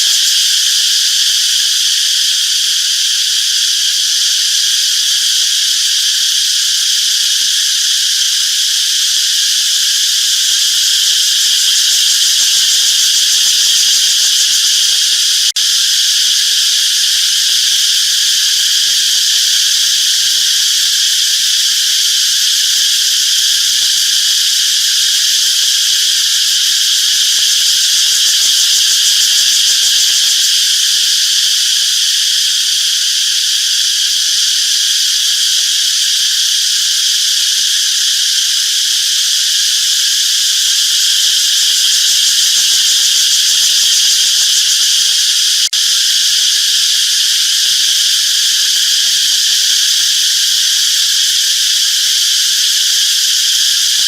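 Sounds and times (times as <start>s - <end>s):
chorus of singing insects: 0.0s - 54.0s.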